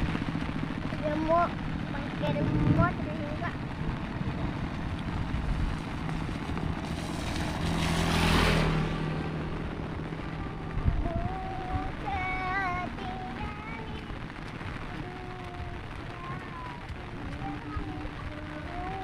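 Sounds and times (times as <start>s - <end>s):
motor vehicle passing: 0.0s - 19.0s.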